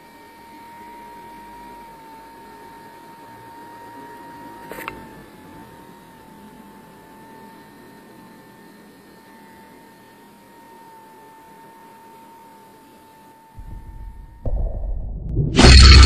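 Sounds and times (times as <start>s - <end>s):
small motor whining: 0.0s - 13.6s.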